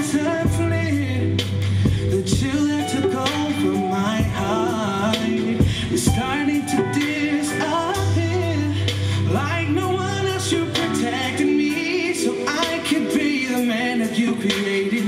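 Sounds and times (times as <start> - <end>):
song with sung melody: 0.0 - 15.0.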